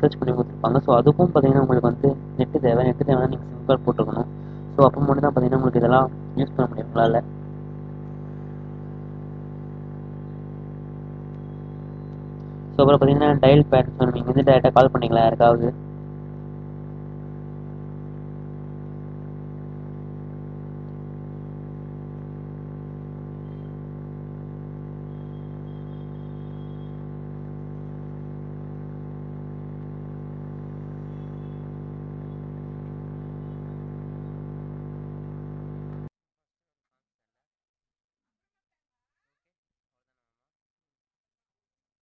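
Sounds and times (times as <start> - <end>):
low electrical hum: 0.0 - 36.1.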